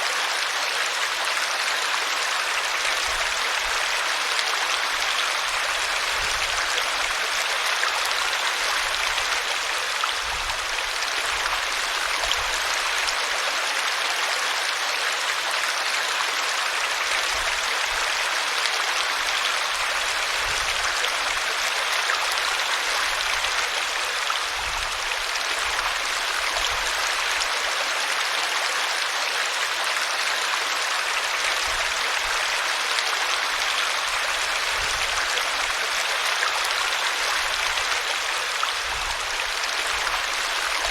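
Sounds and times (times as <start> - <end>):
river water splashing over rocks: 0.0 - 40.9.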